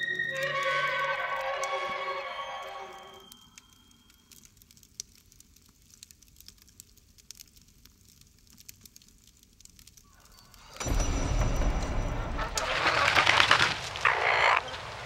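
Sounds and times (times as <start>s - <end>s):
food crackling and popping in pots: 0.0s - 15.0s.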